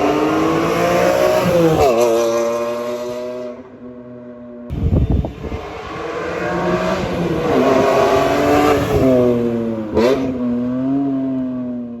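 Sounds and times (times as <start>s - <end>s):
car engine revving: 0.0s - 3.6s, 4.8s - 11.6s.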